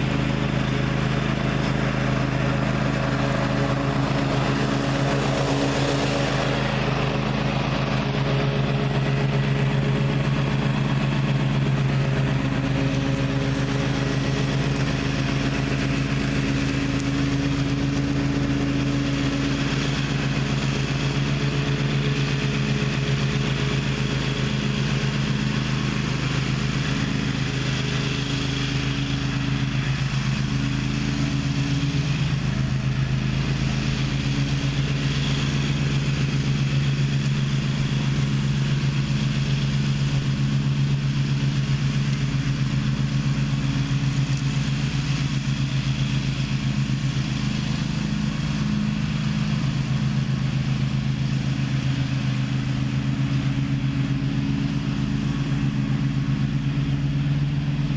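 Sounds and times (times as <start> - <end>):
mower engine running: 0.0 - 57.9.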